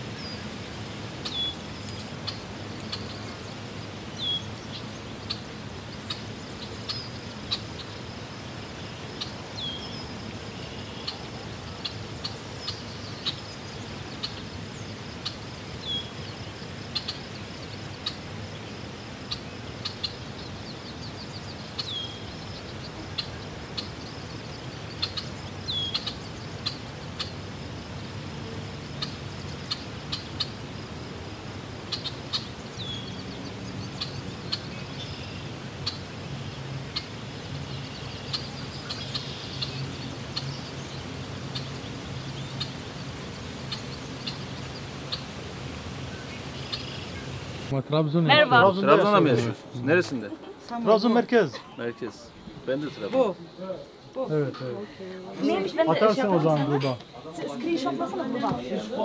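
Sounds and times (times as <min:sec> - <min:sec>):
birds chirping: 0:00.0 - 0:59.0
low hiss: 0:00.0 - 0:59.0.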